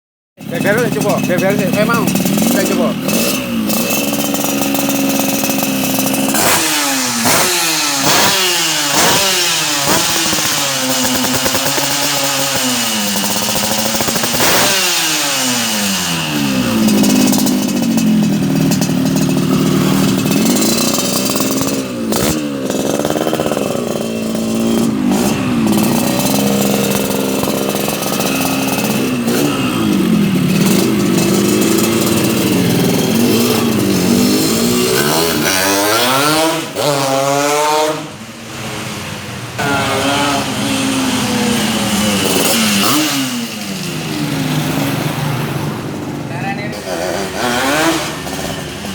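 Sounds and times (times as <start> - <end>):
two-stroke motorcycle engine revving: 0.4 - 48.9.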